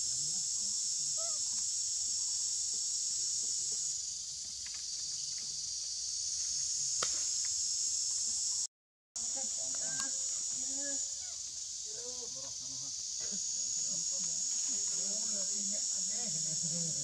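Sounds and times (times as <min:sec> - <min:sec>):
shrill insect chorus drone: 0:00.0 - 0:17.0.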